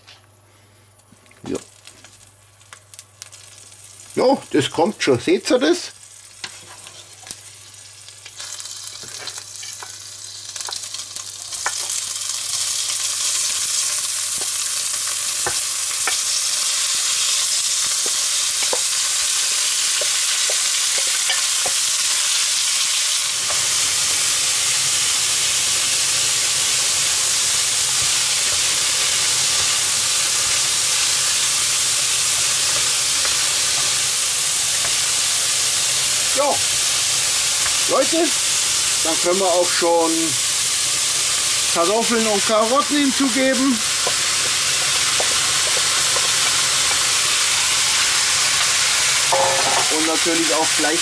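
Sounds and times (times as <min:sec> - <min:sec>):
meat sizzling in a pot: 0:01.0 - 0:51.0.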